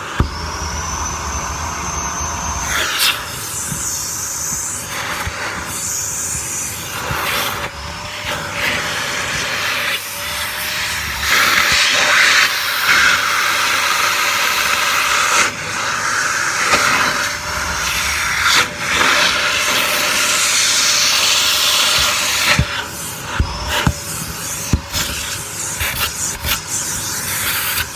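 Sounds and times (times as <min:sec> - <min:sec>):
vacuum cleaner running: 0:00.0 - 0:27.9.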